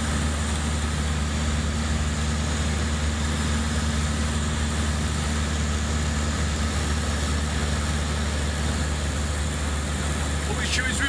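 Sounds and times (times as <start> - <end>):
light aircraft engine hum: 0.0 - 11.0.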